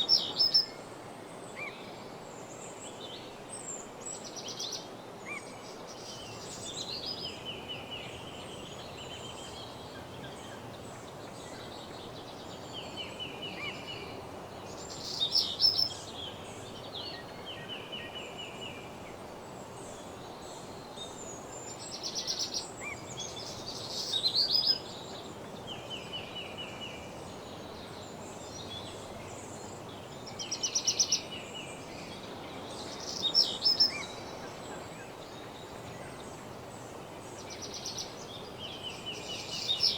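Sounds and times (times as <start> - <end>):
songbirds singing trilled phrases: 0.0 - 0.8, 2.9 - 39.9
steady background hiss: 0.0 - 39.9.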